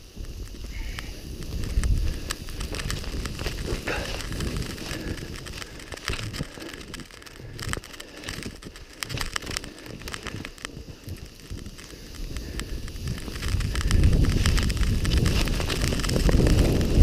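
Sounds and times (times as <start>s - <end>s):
skis rushing through powder: 0.0s - 17.0s
wind buffeting microphone: 0.0s - 17.0s.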